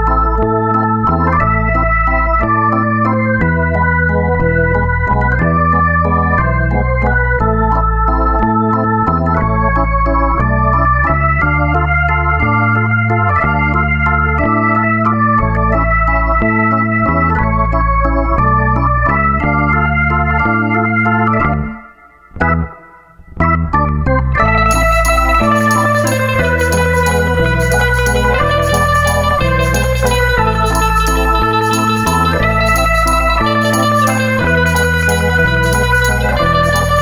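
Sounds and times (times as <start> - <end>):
electronic keyboard organ music: 0.0 - 37.0.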